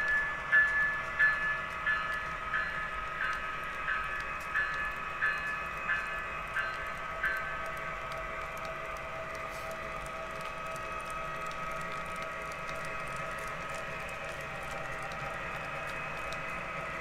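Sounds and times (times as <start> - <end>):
model train whining hum: 0.0 - 17.0
train wheels clicking: 0.0 - 17.0.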